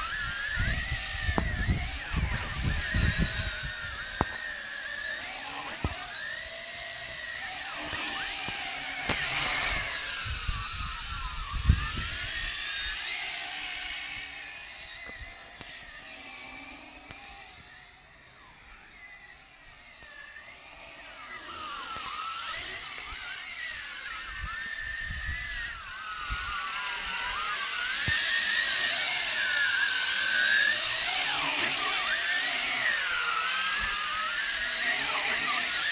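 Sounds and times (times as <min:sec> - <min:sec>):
quadcopter propellers whining: 0:00.0 - 0:35.9.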